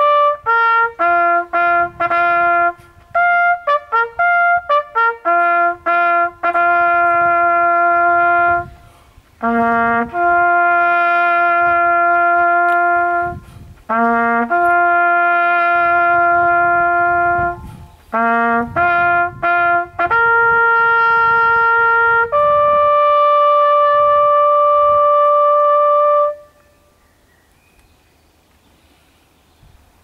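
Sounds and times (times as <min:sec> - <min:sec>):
bugle playing: 0:00.0 - 0:26.6.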